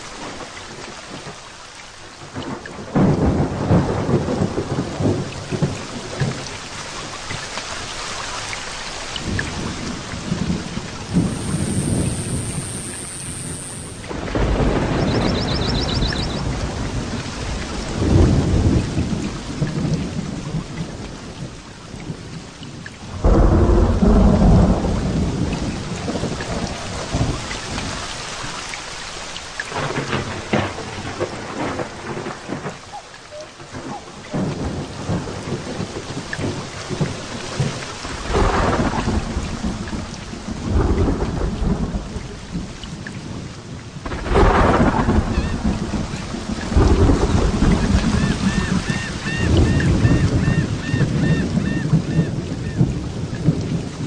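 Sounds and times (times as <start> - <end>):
heavy rain falling: 0.0 - 54.0
thunder rolling: 2.3 - 6.4, 9.2 - 22.3, 23.0 - 28.1, 29.7 - 42.7, 44.0 - 54.0.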